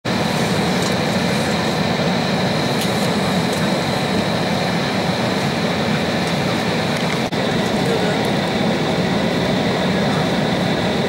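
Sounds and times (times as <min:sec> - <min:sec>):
airliner cabin low rumble: 0:00.0 - 0:11.0
high steady engine whine: 0:00.0 - 0:11.0.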